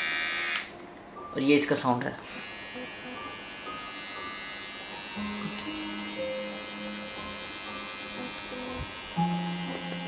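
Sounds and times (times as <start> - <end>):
electric beard trimmer whining: 0.0 - 0.7, 2.2 - 10.0.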